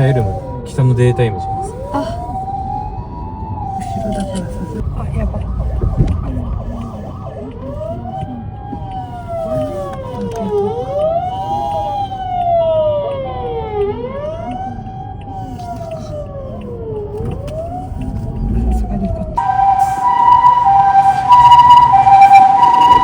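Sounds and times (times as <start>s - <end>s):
low road rumble: 0.0s - 23.0s
two-tone hi-lo siren: 0.0s - 23.0s
wailing siren: 0.0s - 23.0s.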